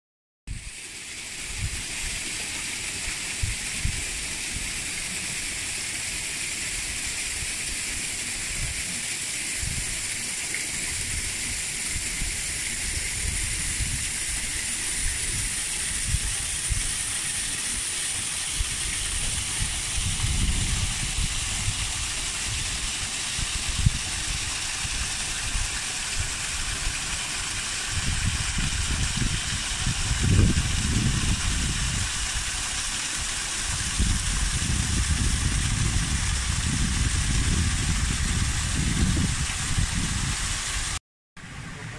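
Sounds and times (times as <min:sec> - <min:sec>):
waterfall splashing over rocks: 0:00.6 - 0:41.0.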